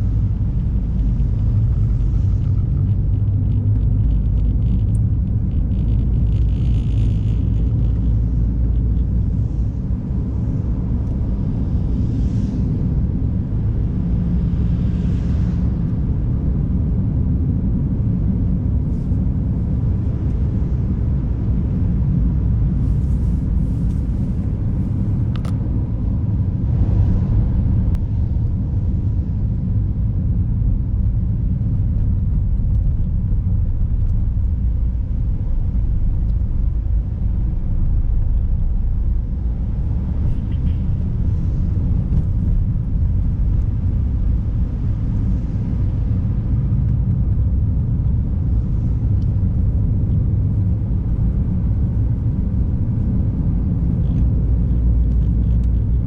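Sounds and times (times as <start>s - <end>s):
car driving on snowy road: 0.0s - 56.0s.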